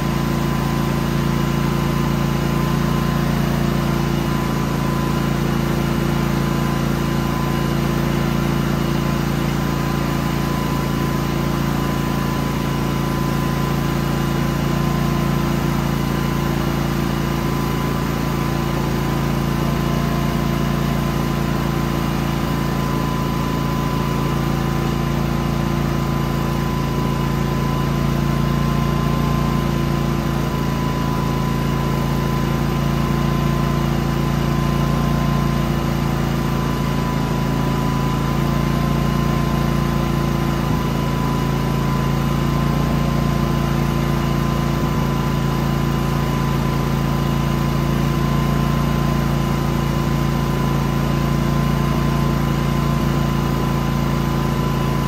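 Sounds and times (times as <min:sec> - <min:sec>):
generator engine idling: 0:00.0 - 0:55.0.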